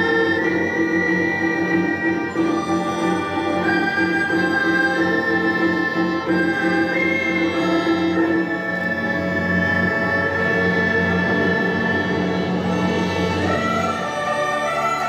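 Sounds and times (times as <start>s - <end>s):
bowed string long notes: 0.0s - 15.0s.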